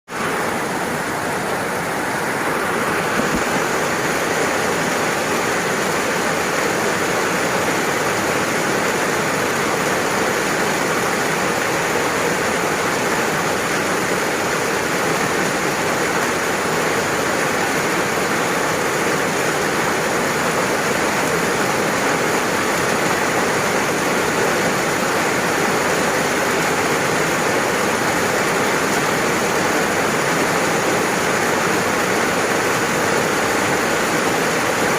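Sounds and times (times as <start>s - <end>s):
steady rainfall: 0.1s - 34.9s.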